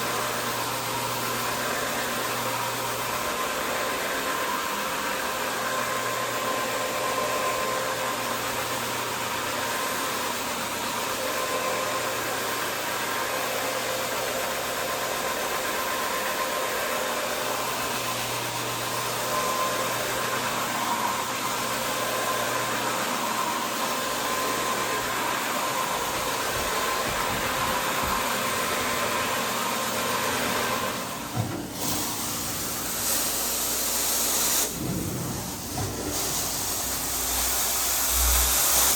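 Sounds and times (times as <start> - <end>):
carpet cleaning machine running: 0.0 - 38.9.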